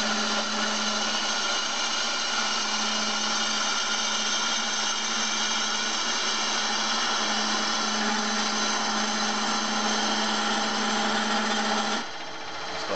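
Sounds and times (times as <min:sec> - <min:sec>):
cutter shaving wood: 0:00.0 - 0:12.9
wood lathe humming: 0:00.0 - 0:12.9.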